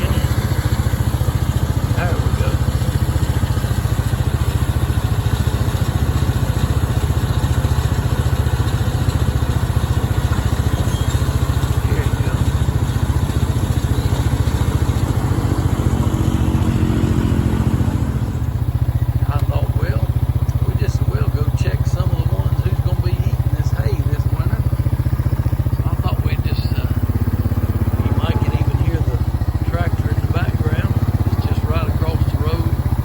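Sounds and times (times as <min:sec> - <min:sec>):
engine idling: 0:00.0 - 0:33.0
higher engine hum: 0:00.0 - 0:33.0.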